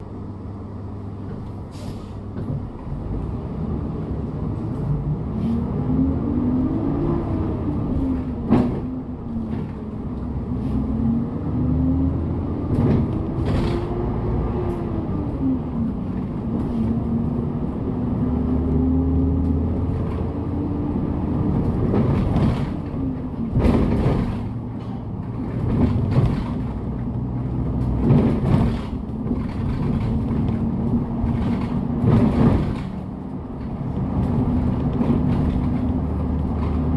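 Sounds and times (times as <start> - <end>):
bus engine accelerating through gears: 0.0 - 36.9.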